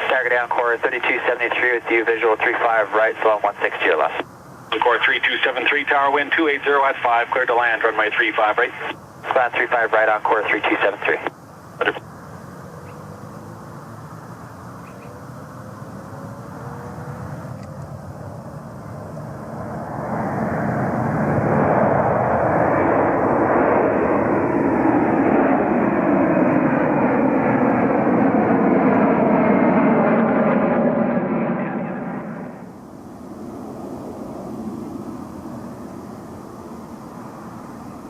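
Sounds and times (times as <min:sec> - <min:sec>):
airliner engines passing: 0:00.0 - 0:38.0.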